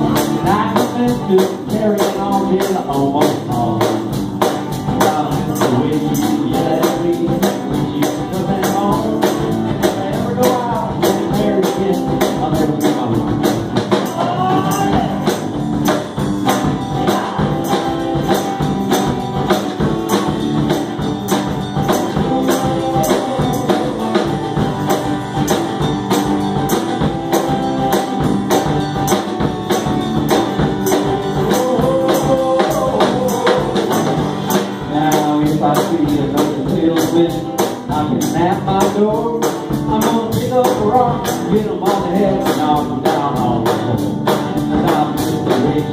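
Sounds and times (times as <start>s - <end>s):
drum kit beat on cymbals: 0.0s - 45.9s
guitars: 0.0s - 45.9s
live band playing: 0.0s - 45.9s.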